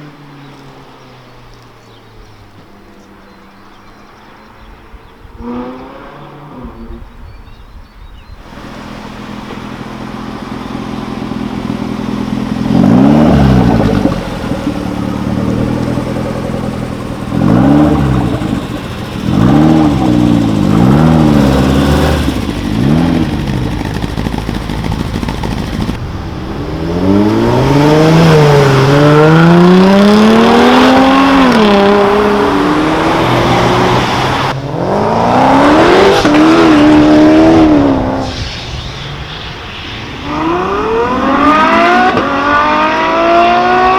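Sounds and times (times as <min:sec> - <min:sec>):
car accelerating through gears: 0:05.3 - 0:07.1, 0:08.5 - 0:38.6, 0:40.2 - 0:43.9
car engine revving: 0:08.5 - 0:43.9.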